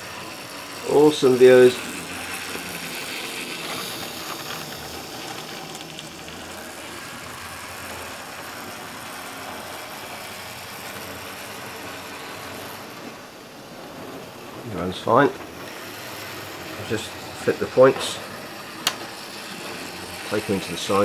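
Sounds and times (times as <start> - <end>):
model train motor whirring: 0.0 - 21.0.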